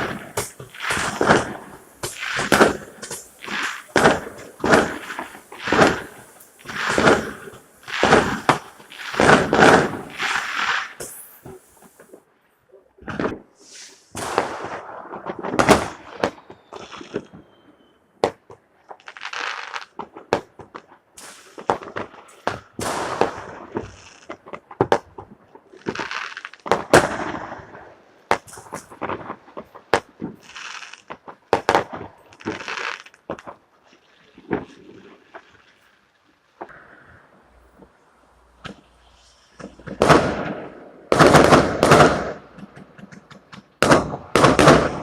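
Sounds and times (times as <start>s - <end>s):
firecrackers and rockets banging: 0.0s - 12.3s, 13.0s - 45.0s.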